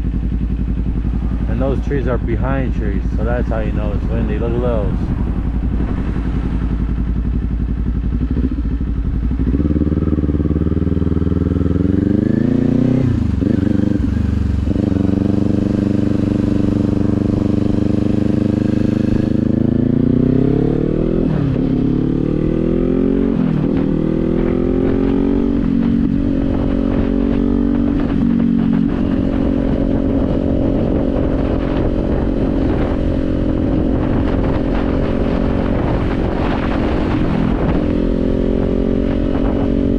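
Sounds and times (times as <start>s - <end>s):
low rumble of wind: 0.0s - 39.9s
motorcycle engine accelerating: 0.0s - 39.9s.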